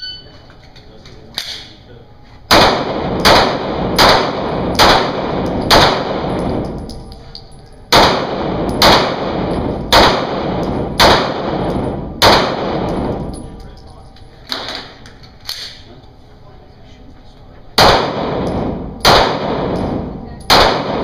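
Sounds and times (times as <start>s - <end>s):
handgun shots echoing indoors: 1.4s - 1.7s, 2.5s - 15.8s, 17.8s - 21.0s.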